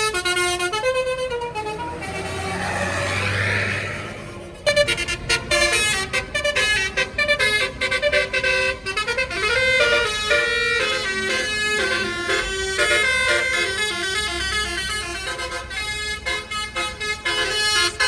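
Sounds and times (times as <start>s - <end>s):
bus melody horn: 0.0s - 18.0s.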